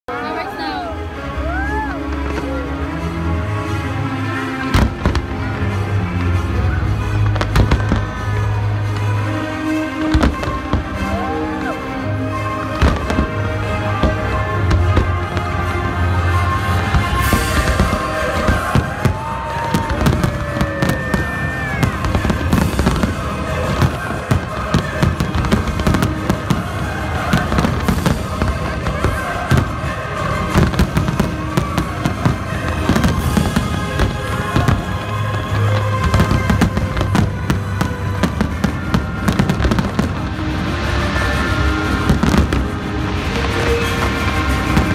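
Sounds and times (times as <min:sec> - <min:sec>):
fireworks bangs and crackling: 0:00.1 - 0:44.9
music playing: 0:00.1 - 0:44.9.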